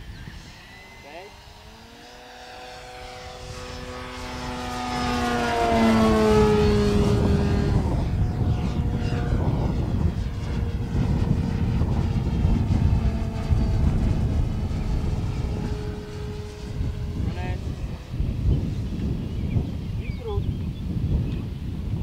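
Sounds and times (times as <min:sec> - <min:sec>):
model plane propeller droning: 0:00.0 - 0:22.0.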